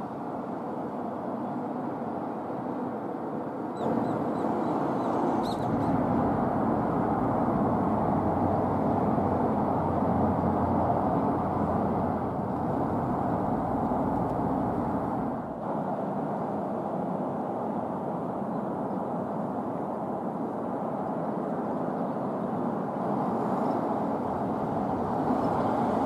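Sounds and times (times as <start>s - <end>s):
traffic rumble: 3.8s - 26.0s.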